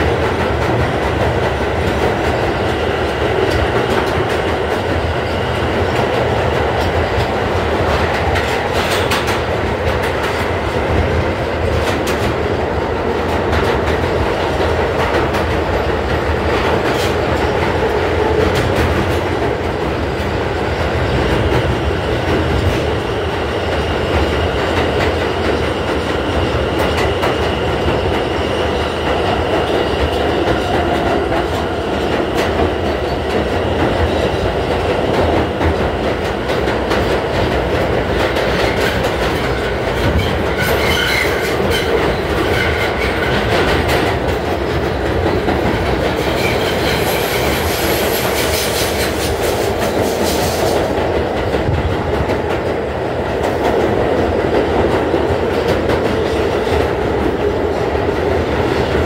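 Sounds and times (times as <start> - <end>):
clickety-clack of rail joints: 0.0 - 59.0
subway train rumbling in tunnel: 0.0 - 59.0.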